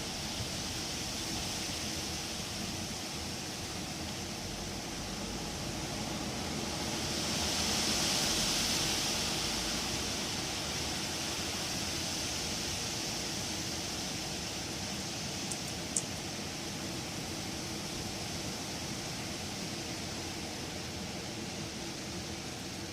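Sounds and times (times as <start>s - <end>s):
wind gusting through trees: 0.0s - 22.9s.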